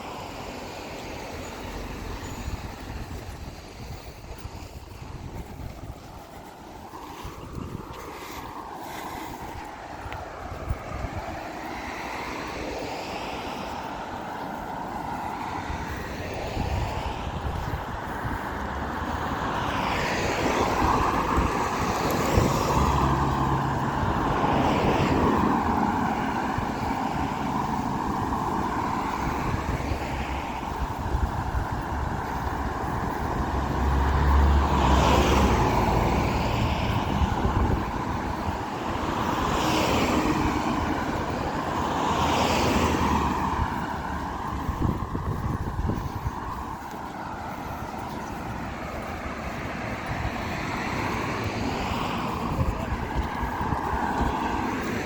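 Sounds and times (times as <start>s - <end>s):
cars passing: 0.0s - 55.0s
traffic rumble: 0.0s - 55.0s.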